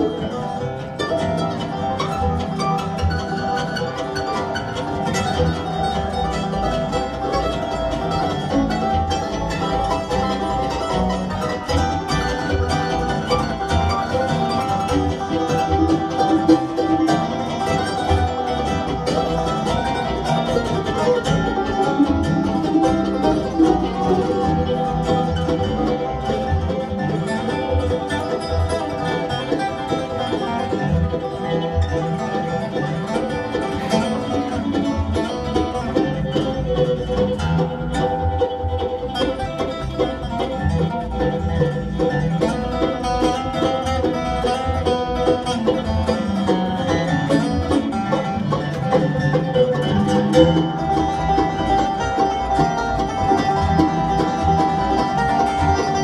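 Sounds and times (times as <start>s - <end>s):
bluegrass band playing: 0.0s - 56.0s.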